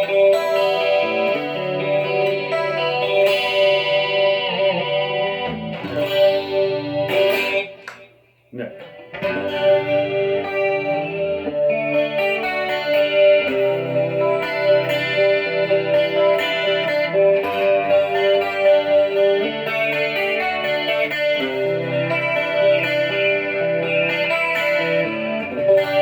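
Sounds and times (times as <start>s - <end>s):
clean electric guitar with chorus: 0.0s - 26.0s.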